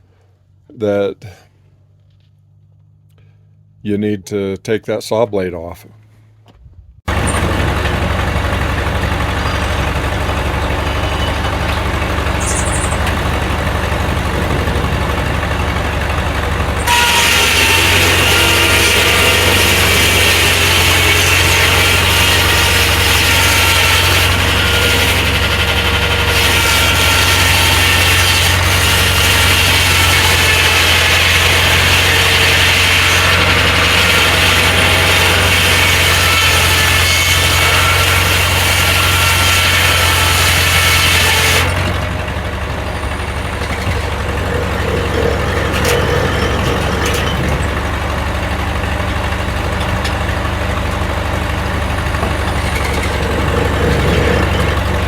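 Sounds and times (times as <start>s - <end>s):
sawmill engine hum: 7.1s - 55.0s.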